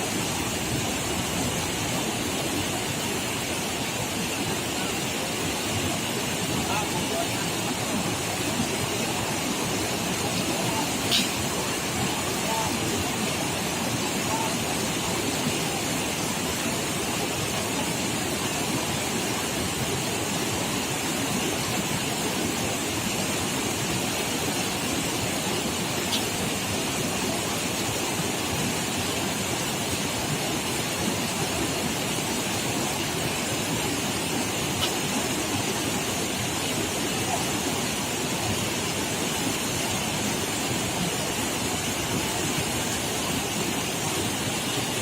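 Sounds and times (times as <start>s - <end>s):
fast-flowing river rushing: 0.0s - 45.0s.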